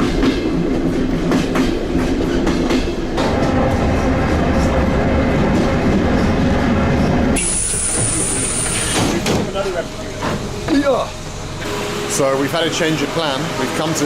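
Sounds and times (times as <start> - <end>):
train rumble with humming tone: 0.0 - 14.0
train wheels clacking on rails: 0.0 - 14.0.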